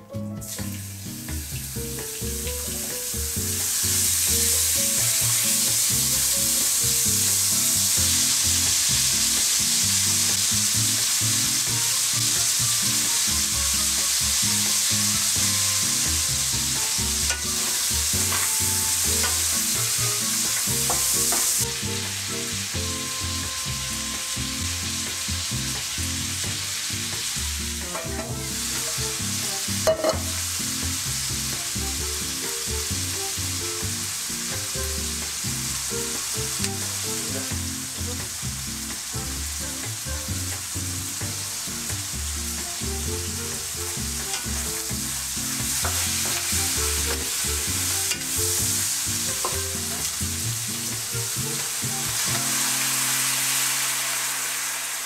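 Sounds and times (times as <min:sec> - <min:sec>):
meat sizzling in oil: 0:00.0 - 0:55.0.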